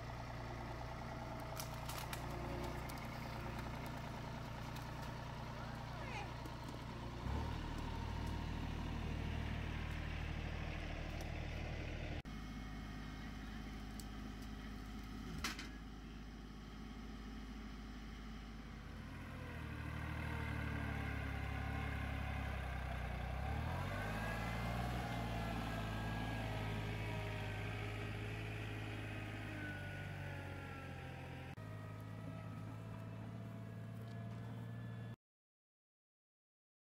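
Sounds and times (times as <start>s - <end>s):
tractor engine running: 0.0s - 35.2s.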